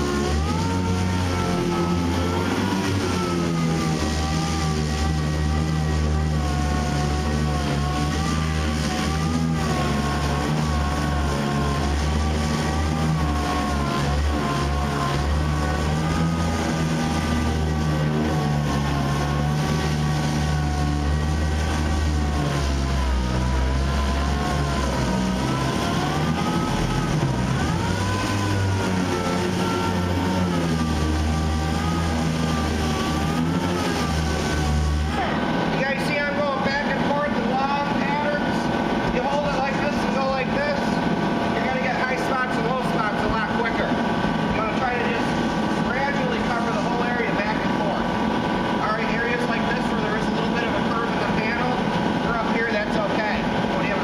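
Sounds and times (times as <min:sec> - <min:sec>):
orbital sander whining: 0:00.0 - 0:54.0
steady low hum: 0:00.0 - 0:54.0.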